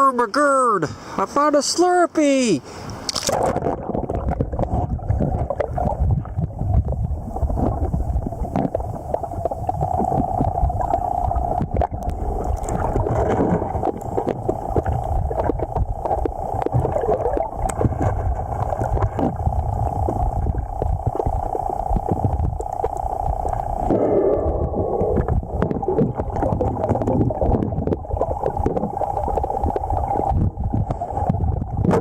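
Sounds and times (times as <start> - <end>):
underwater river water rushing: 0.0 - 32.0.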